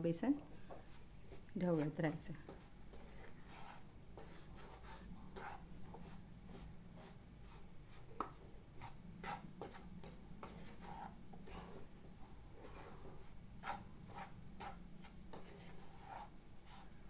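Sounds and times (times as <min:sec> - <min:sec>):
spatula scraping a pan: 0:01.7 - 0:17.0.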